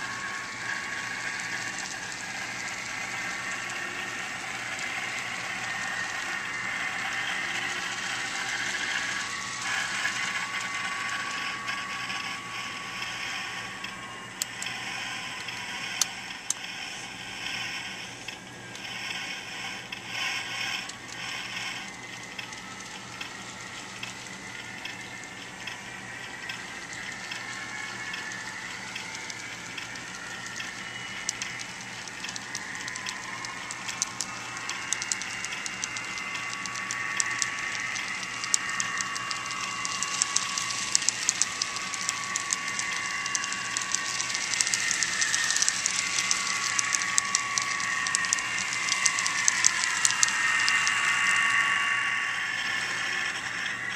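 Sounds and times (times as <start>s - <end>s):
model train wheels clicking: 0.0s - 53.9s.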